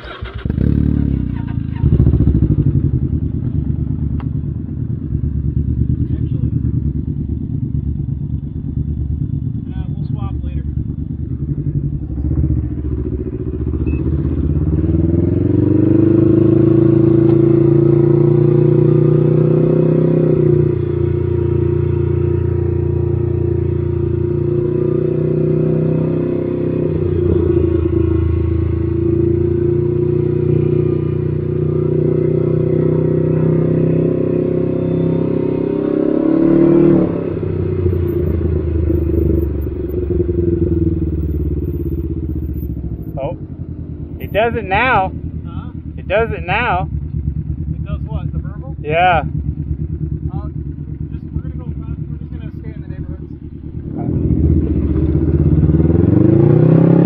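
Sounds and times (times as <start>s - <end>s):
motorcycle engine exhaust note: 0.1s - 57.0s.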